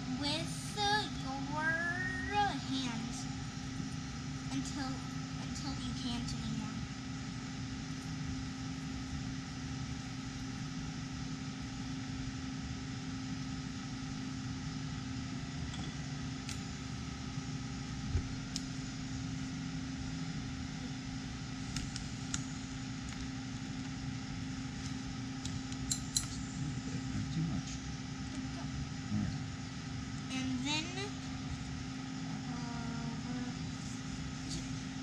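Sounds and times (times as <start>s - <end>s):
machine humming drone: 0.0s - 35.0s.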